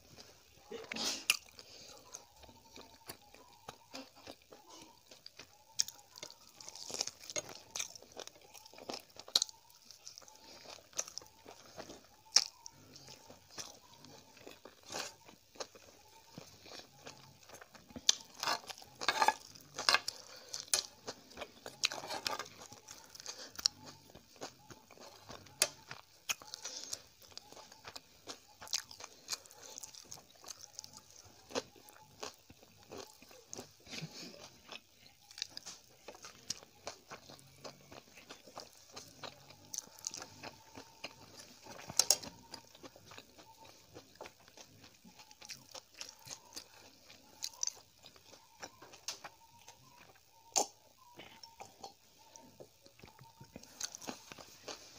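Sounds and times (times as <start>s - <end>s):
person chewing noodles: 0.0s - 54.9s.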